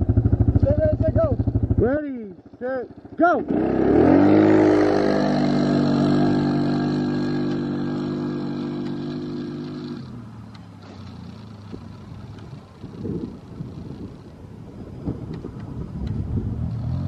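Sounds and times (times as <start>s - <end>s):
atv engine revving: 0.0s - 14.4s, 15.0s - 17.0s.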